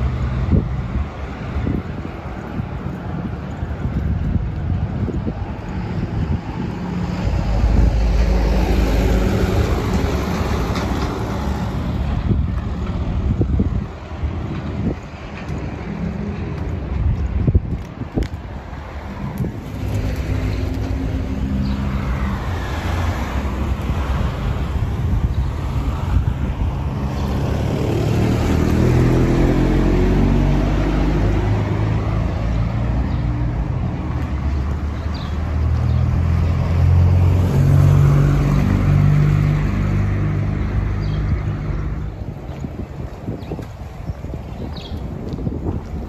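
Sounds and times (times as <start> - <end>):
cars passing: 0.0 - 46.0.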